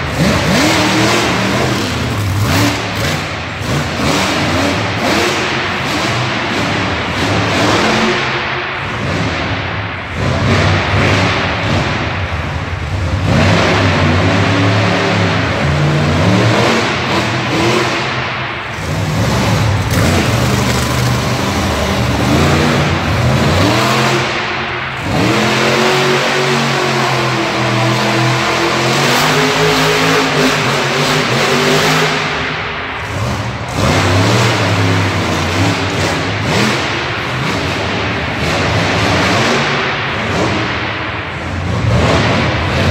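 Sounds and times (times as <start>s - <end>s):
truck engines revving: 0.0s - 42.9s.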